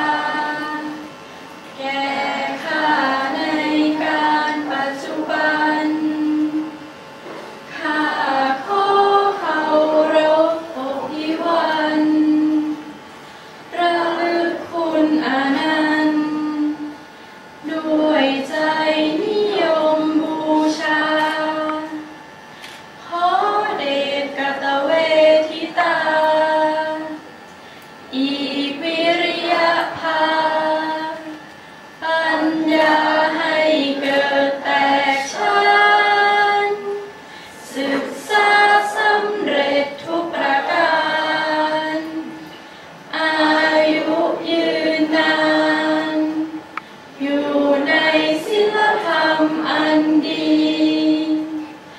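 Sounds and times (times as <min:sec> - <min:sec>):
group singing slow song: 0:00.0 - 0:51.9.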